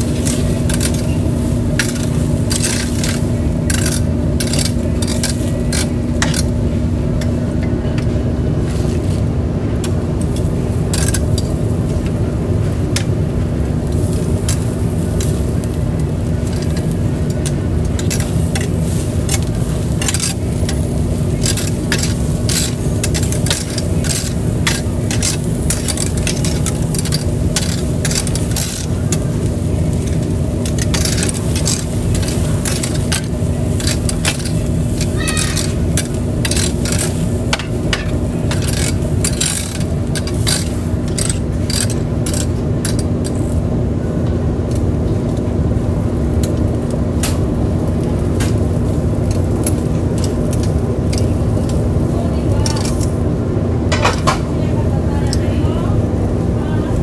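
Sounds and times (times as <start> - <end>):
low rumble of grill: 0.0 - 57.0
meat sizzling on a grill: 0.0 - 57.0.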